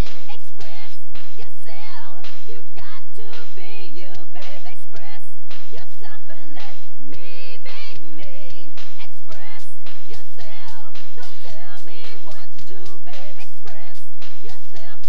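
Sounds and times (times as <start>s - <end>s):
drum beat: 0.0s - 15.0s
person singing with vibrato: 0.0s - 15.0s.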